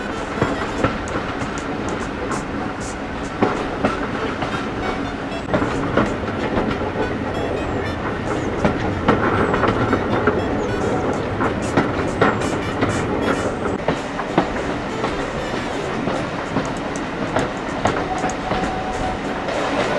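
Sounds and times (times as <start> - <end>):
train wheels clattering over rail joints: 0.0 - 19.9.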